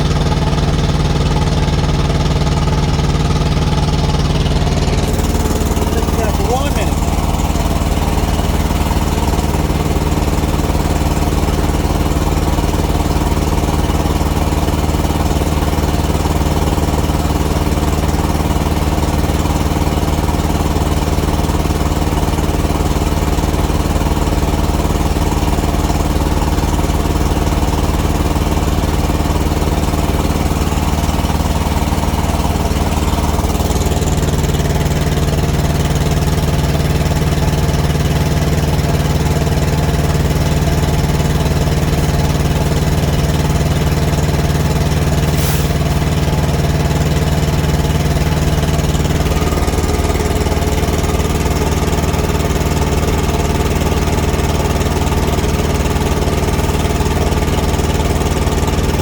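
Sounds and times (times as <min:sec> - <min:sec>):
diesel engine running roughly: 0:00.0 - 0:59.0.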